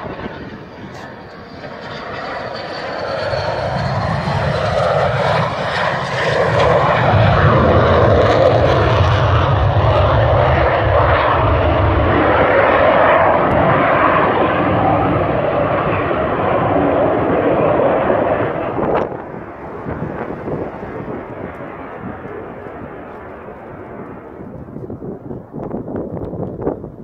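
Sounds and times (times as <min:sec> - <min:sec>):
jet aircraft flying past: 0:00.0 - 0:27.0.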